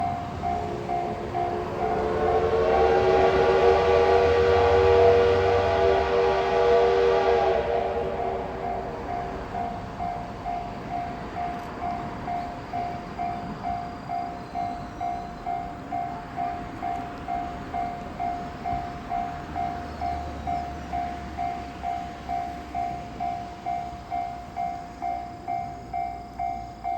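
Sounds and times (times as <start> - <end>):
level-crossing warning bell: 0.0 - 26.9.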